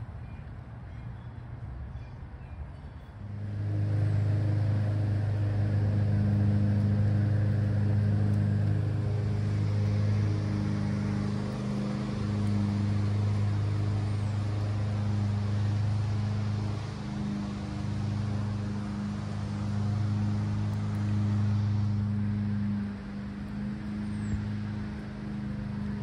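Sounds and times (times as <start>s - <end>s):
motor humming: 3.2s - 26.0s.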